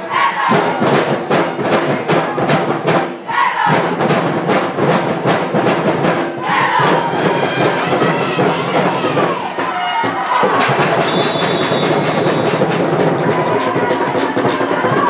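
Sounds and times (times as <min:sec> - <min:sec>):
crowd cheering and chanting: 0:00.0 - 0:05.0, 0:05.8 - 0:15.0
music with fast steady beat: 0:00.0 - 0:15.0.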